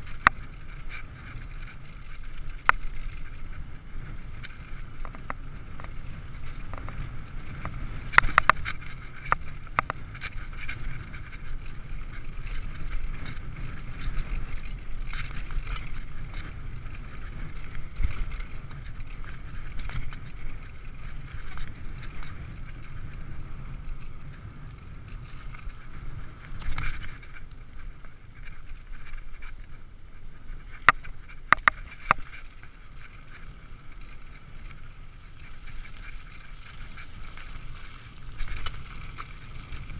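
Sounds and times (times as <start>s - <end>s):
bike clicking and rattling: 0.0s - 39.9s
bike tyres rumbling on dirt: 0.0s - 39.9s
wind on microphone: 0.0s - 39.9s.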